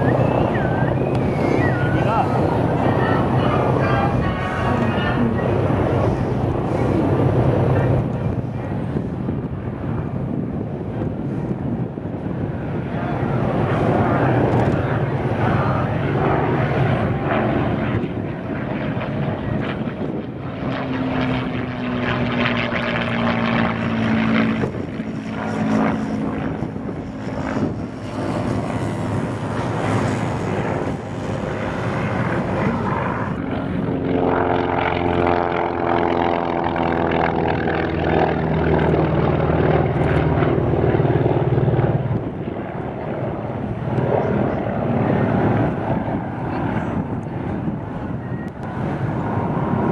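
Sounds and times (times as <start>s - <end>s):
propeller aircraft droning past: 0.0s - 49.9s.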